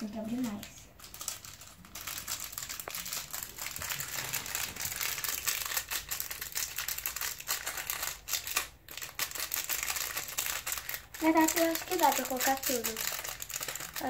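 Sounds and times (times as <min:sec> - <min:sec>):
plastic packet crinkling: 0:00.0 - 0:14.0.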